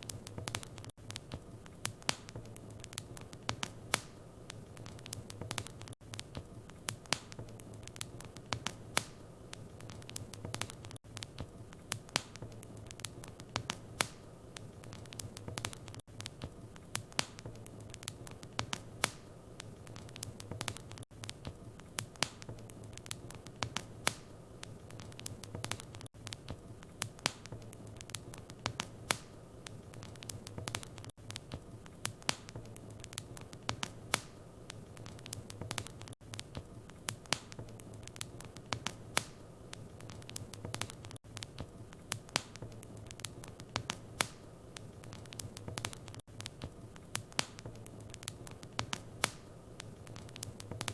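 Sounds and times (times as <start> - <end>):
hiss of flames: 0.0 - 50.9
wood fire crackling and popping: 0.0 - 50.9.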